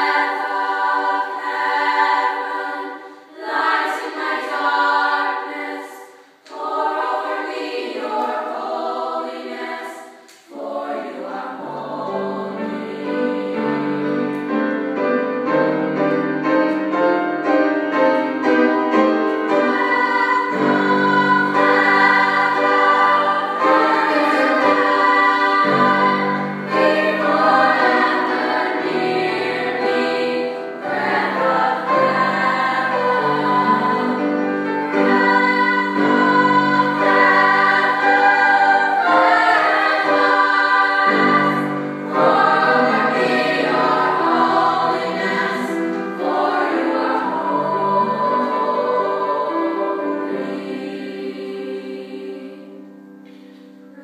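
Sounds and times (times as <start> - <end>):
girls' choir singing: 0.0 - 14.4, 18.0 - 54.0.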